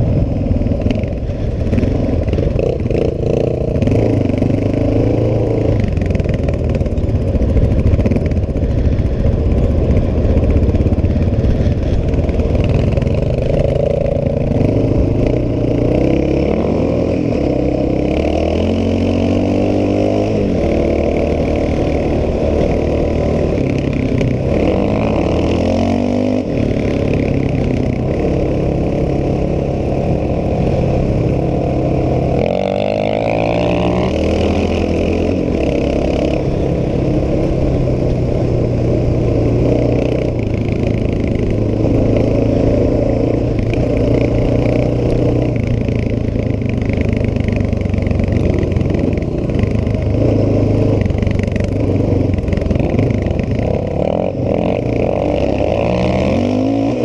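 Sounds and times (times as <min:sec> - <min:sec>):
atv engine revving: 0:00.0 - 0:57.0
wind: 0:00.0 - 0:57.0.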